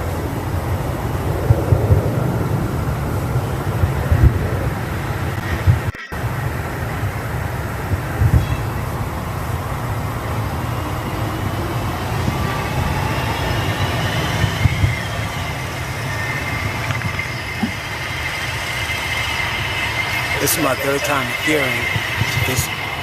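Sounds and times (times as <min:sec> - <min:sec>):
city street vehicle noise: 0:00.0 - 0:23.0.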